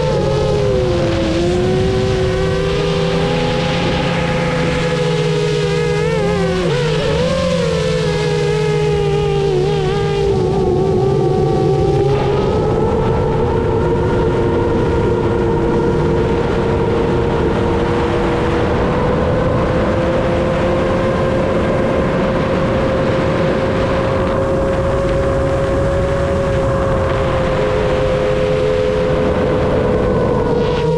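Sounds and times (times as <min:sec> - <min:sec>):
quadcopter motors whining: 0:00.0 - 0:30.9.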